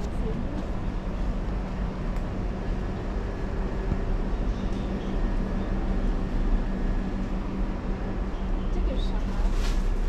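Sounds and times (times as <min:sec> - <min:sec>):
low indoor rumble and hum: 0:00.0 - 0:10.0.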